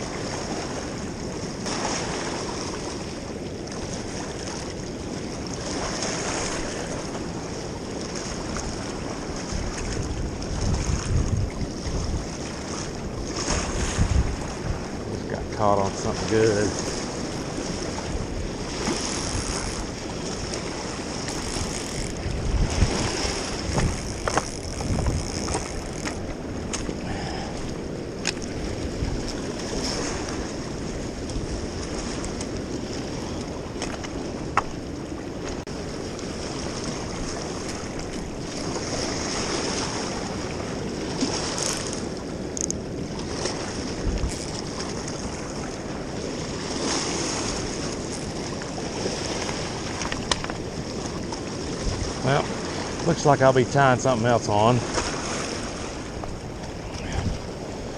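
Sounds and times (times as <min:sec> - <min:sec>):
river water flowing: 0:00.0 - 0:57.9
wind on microphone: 0:05.5 - 0:53.8, 0:54.5 - 0:57.9.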